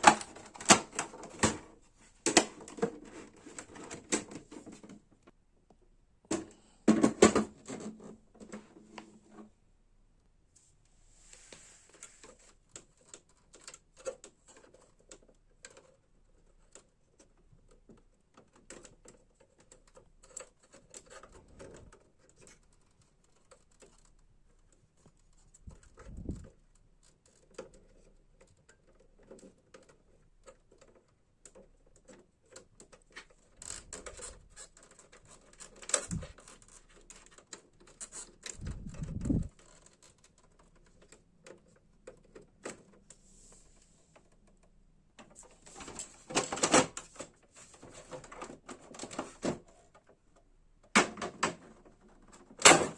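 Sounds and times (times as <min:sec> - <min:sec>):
hands handling plastic parts: 0:00.0 - 0:09.6, 0:11.3 - 0:52.9.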